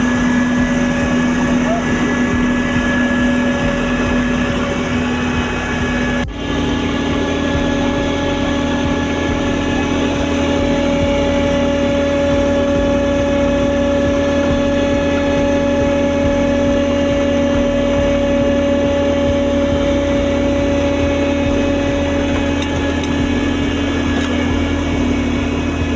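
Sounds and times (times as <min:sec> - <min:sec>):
paving machine diesel engine: 0:00.0 - 0:25.9.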